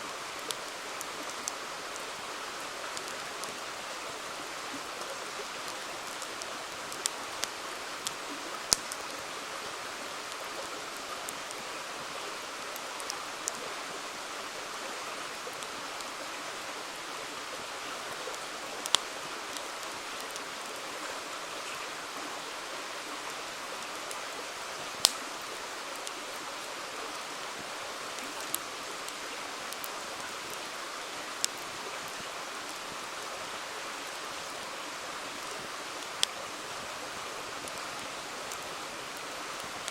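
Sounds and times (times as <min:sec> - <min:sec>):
river rushing: 0:00.0 - 0:39.9
campfire popping and crackling: 0:00.1 - 0:14.0, 0:17.3 - 0:21.2, 0:23.5 - 0:39.9.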